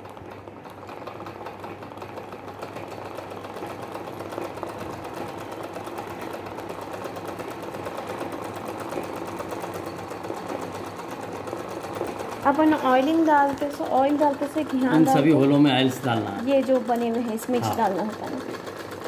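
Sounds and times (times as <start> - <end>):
sewing machine stitching: 0.0 - 19.0.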